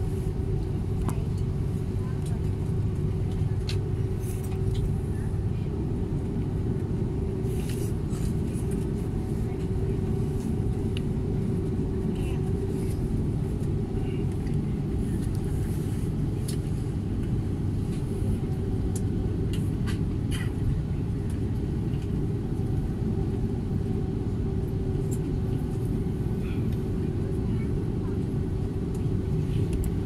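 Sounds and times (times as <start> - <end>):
jet engine rumble: 0.0 - 30.0
steady hum: 0.0 - 30.0.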